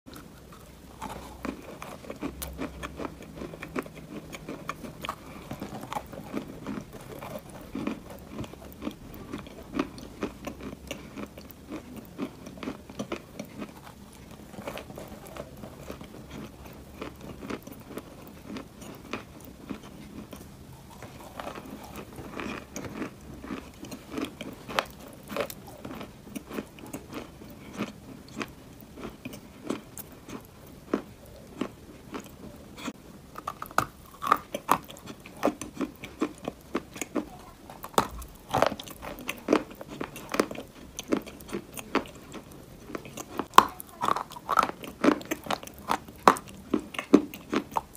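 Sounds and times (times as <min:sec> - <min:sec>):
chewing crunchy clay: 0:00.1 - 0:47.9.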